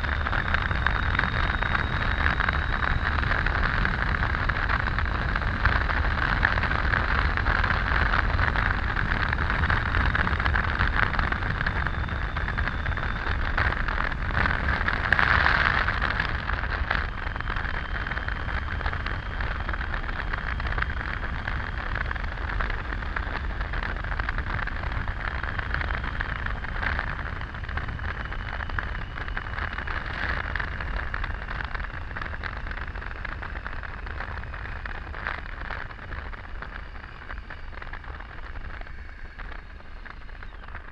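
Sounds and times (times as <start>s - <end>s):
motorcycle engine running: 0.0s - 40.9s
road noise: 0.0s - 40.9s
wind rush: 0.0s - 40.9s.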